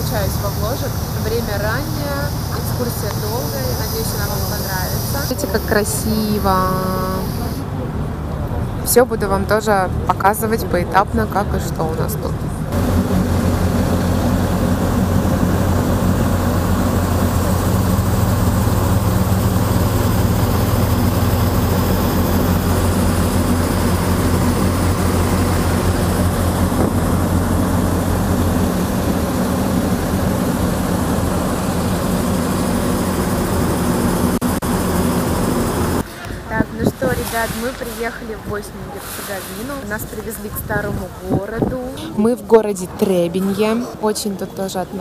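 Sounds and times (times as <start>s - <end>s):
ferry engine drone: 0.0s - 45.0s.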